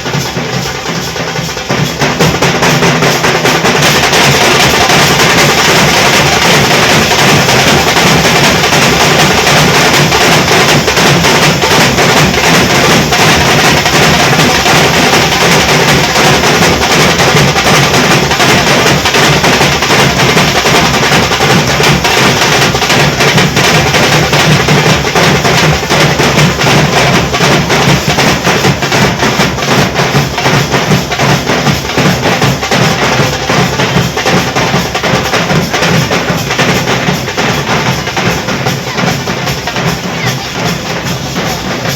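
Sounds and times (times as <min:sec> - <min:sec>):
barrel drums pounding: 0:00.0 - 0:41.9
sharp drum cracks: 0:00.0 - 0:41.9.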